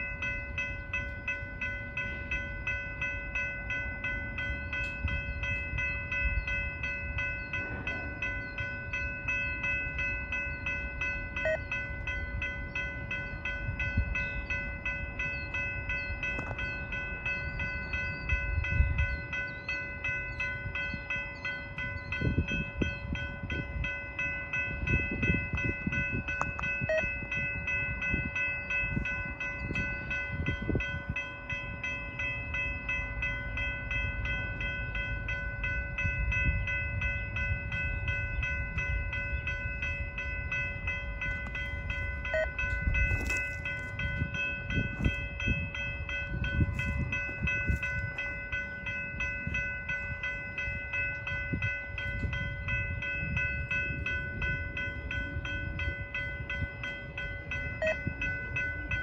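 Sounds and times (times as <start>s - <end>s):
crossing bell ringing: 0.0s - 59.0s
freight train rumbling past: 0.0s - 59.0s.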